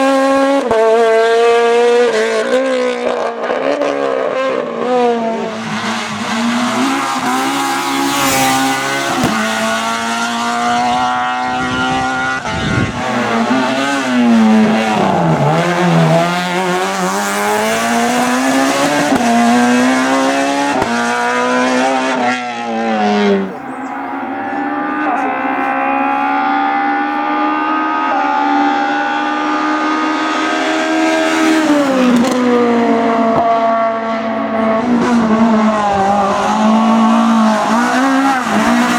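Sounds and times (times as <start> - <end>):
rally car engine at high revs: 0.0 - 38.9.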